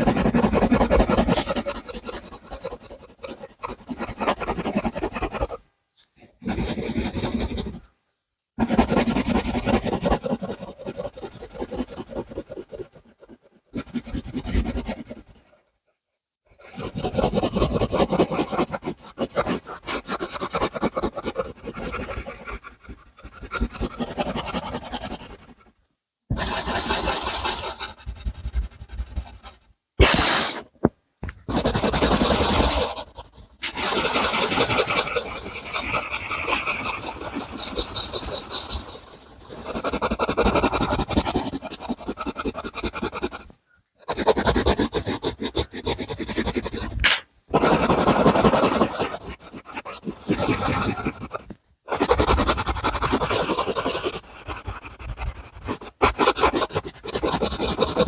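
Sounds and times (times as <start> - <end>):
drawing tool scratching on paper: 0.0 - 5.6, 6.4 - 7.8, 8.6 - 15.7, 16.5 - 58.0.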